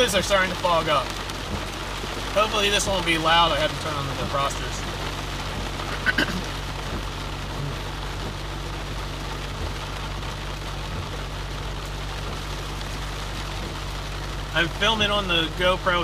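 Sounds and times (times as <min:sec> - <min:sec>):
car engine low hum: 0:00.0 - 0:16.0
rain on car: 0:00.0 - 0:16.0.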